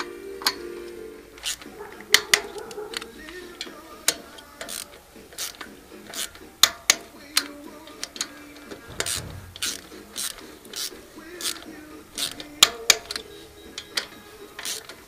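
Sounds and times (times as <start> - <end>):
hand tools clicking on metal: 0.0 - 15.0.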